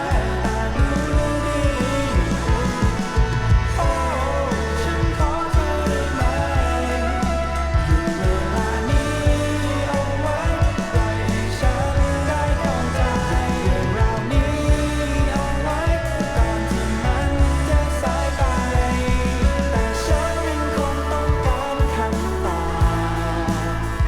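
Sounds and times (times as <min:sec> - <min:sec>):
rock song from vinyl record: 0:00.0 - 0:24.0.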